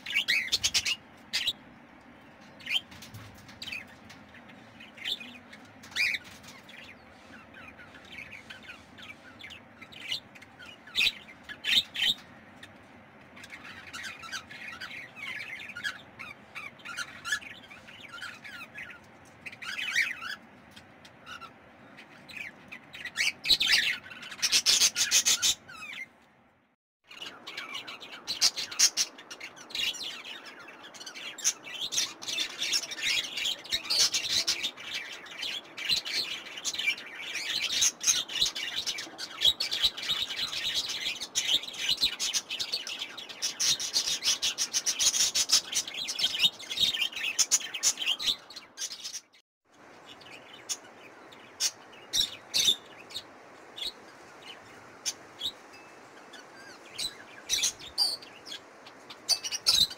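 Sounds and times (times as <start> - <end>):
parrots chirping and chattering: 0.0 - 1.7, 2.4 - 26.1, 27.1 - 59.9.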